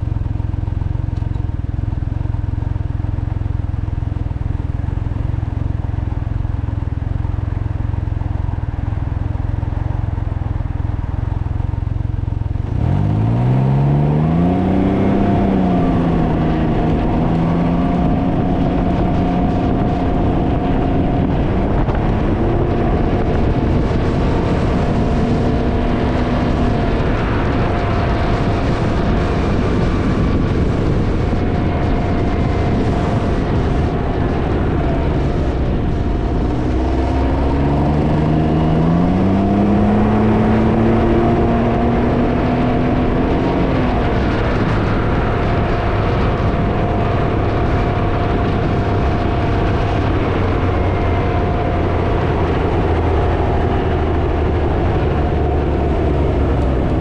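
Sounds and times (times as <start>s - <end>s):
motorcycle engine: 0.0s - 57.0s
wind buffeting microphone: 4.2s - 57.0s.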